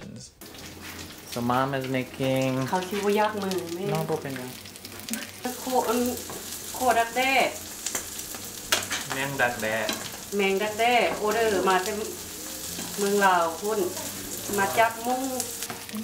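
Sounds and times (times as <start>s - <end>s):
food sizzling in a frying pan: 0.4s - 16.0s.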